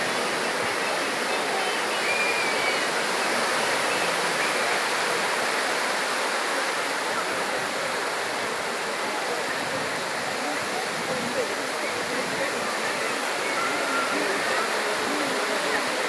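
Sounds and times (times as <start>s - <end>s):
faint distant voices: 0.0s - 16.0s
water rushing at beach: 0.0s - 16.0s.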